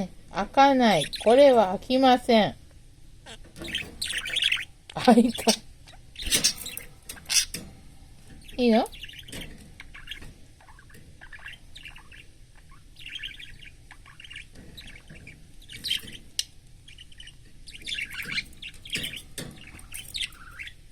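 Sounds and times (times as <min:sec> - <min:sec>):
budgerigar chirping and chattering: 0:00.7 - 0:01.9, 0:03.2 - 0:07.7, 0:08.4 - 0:20.9.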